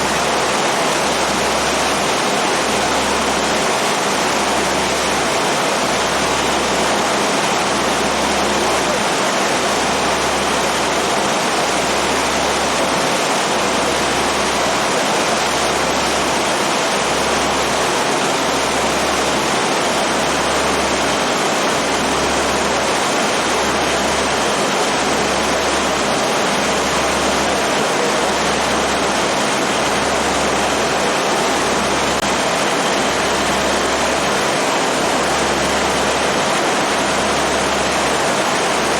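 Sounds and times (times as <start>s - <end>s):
boat rushing noise: 0.0s - 38.9s.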